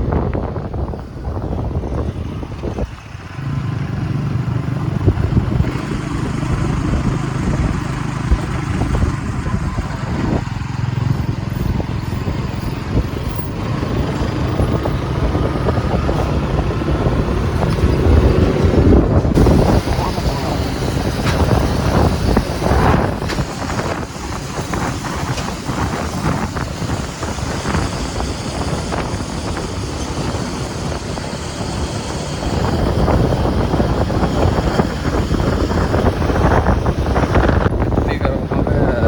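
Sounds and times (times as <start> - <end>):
motorcycle engine cruising: 0.0 - 39.0
wind on microphone: 0.0 - 39.0.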